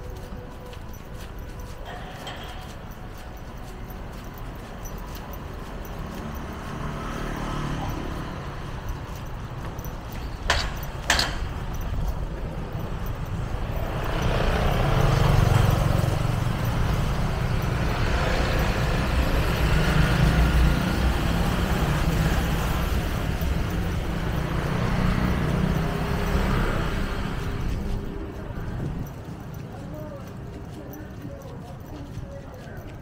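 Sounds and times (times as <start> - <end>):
passing motor vehicles: 0.0 - 33.0
steady low traffic rumble: 0.0 - 33.0.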